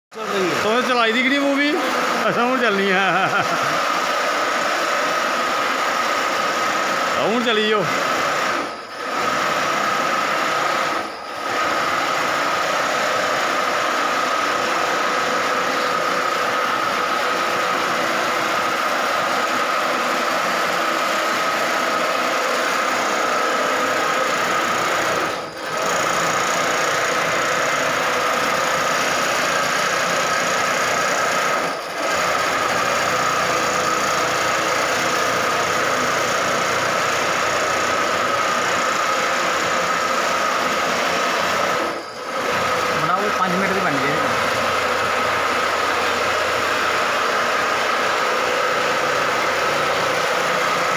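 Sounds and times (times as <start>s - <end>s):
quilting machine stitching: 0.1s - 50.9s.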